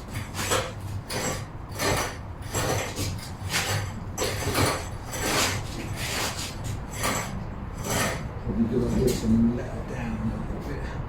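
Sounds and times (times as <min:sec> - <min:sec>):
engine hoist rasping and clanking: 0:00.0 - 0:09.6
steady low hum: 0:00.0 - 0:11.0.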